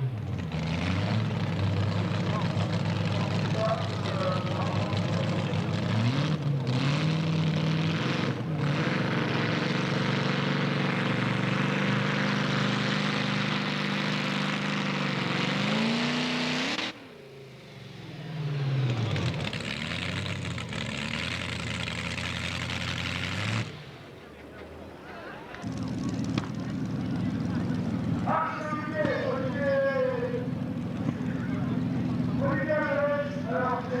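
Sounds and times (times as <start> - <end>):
tractor engine running flat out: 0.0 - 16.9, 17.8 - 24.8, 25.4 - 34.0.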